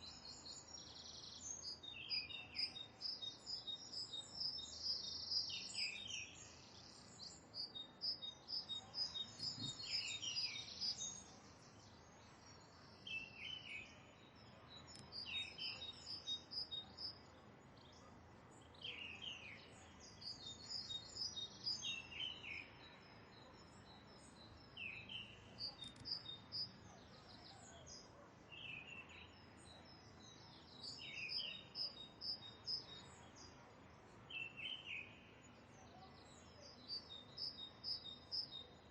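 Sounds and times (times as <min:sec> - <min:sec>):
faint background hiss: 0:00.0 - 0:38.9.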